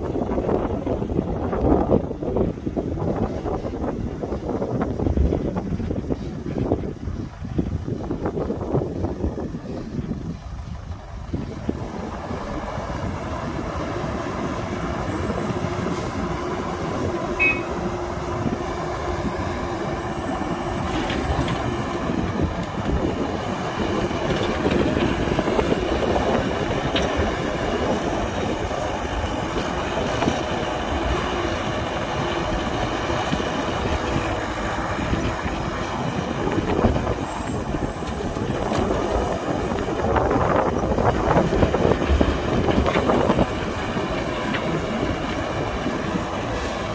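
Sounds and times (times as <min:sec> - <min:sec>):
excavator diesel engine rumbling: 0:00.0 - 0:46.9.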